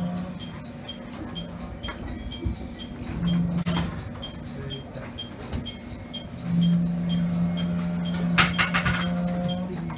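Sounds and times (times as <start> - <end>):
electric train humming: 0.0 - 9.9
rapid high-pitched ticking: 0.0 - 9.9.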